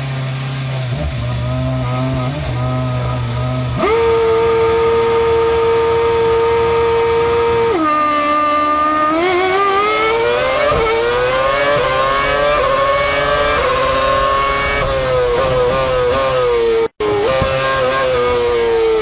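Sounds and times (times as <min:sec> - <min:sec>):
engine blips on downshifts: 0:00.0 - 0:19.0
racing car engine revving: 0:00.0 - 0:19.0.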